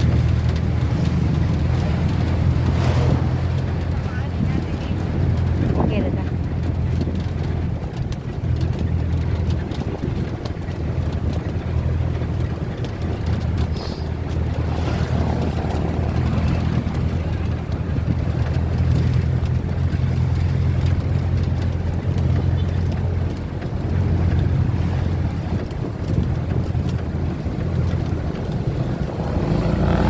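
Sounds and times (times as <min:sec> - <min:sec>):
road noise: 0:00.0 - 0:30.0
vehicle engine rumble: 0:00.0 - 0:30.0
wind buffeting microphone: 0:00.0 - 0:30.0.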